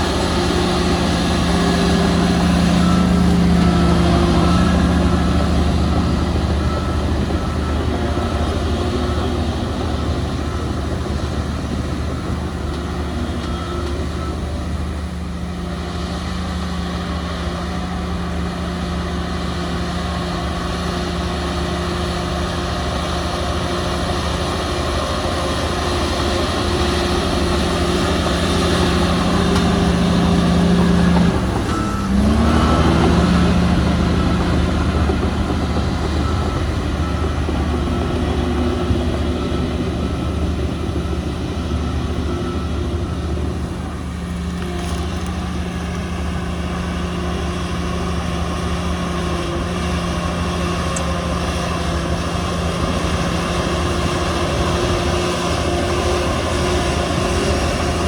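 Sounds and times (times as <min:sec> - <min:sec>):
heavy diesel engine rumbling: 0:00.0 - 0:58.0.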